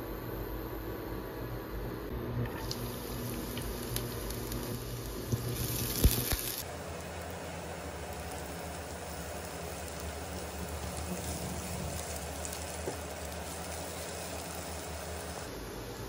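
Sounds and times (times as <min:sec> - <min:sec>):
steady low hum: 0:00.0 - 0:16.0
garlic and onion sizzling in oil: 0:02.1 - 0:16.0.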